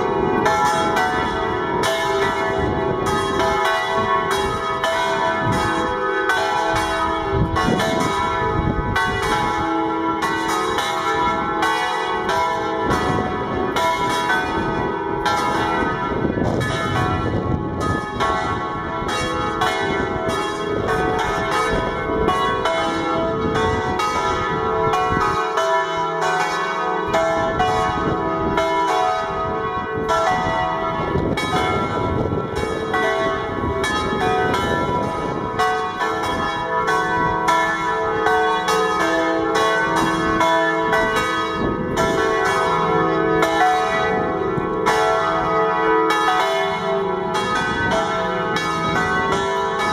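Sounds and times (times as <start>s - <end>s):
church bells ringing together: 0.0s - 49.9s.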